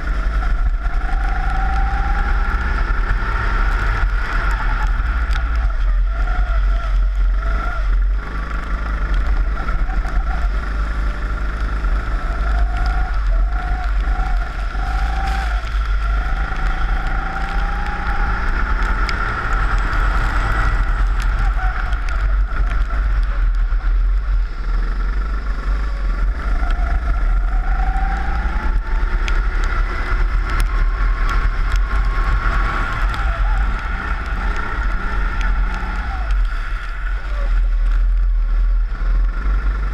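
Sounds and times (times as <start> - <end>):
heavy low rumble: 0.0 - 39.9
kart engine revving: 0.0 - 39.9.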